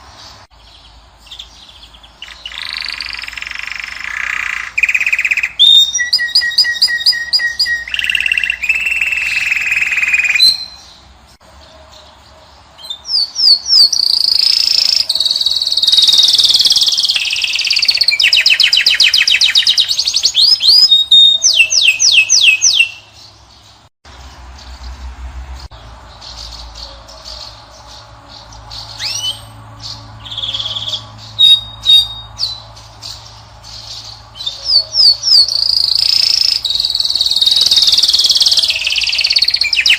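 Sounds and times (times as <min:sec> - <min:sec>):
songbirds twittering and trilling: 0:00.0 - 0:39.9.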